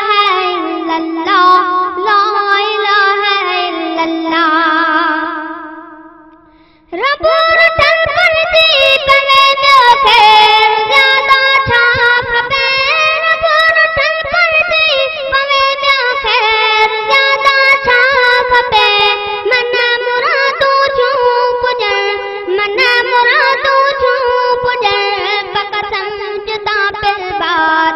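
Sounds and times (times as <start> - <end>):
boy singing devotional song: 0.0 - 27.9.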